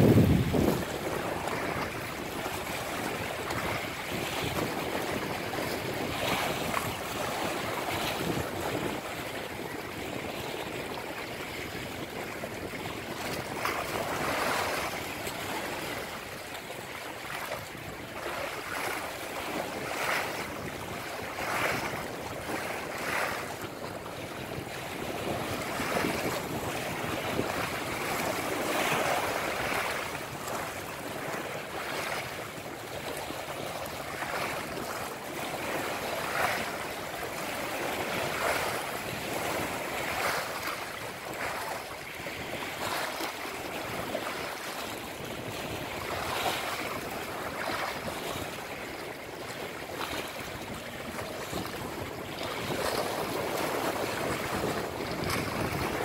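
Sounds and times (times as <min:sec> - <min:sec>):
waves washing against shore: 0:00.0 - 0:56.0
wind on microphone: 0:00.0 - 0:56.0.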